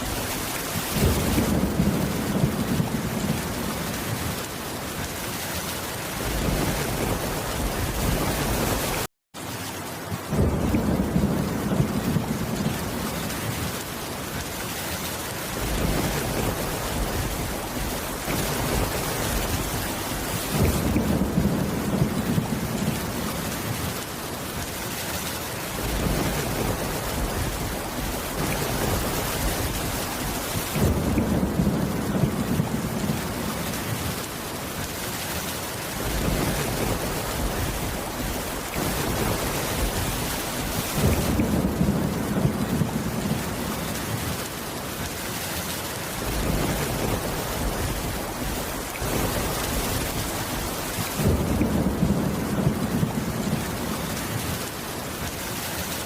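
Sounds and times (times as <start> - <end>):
low thunder rumbles: 0.0 - 5.3, 6.0 - 9.1, 10.1 - 14.6, 15.4 - 24.8, 25.6 - 45.1, 46.1 - 54.8
heavy rain: 0.0 - 56.0.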